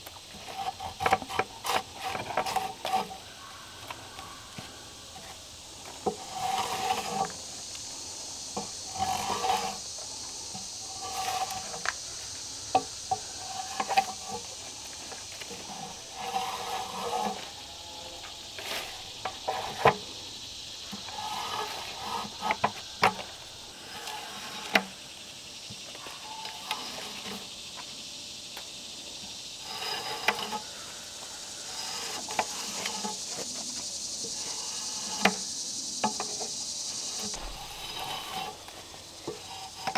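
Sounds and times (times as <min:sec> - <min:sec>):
drawknife scraping bark: 0:00.3 - 0:20.2, 0:20.8 - 0:25.0, 0:26.0 - 0:27.5, 0:29.6 - 0:39.9.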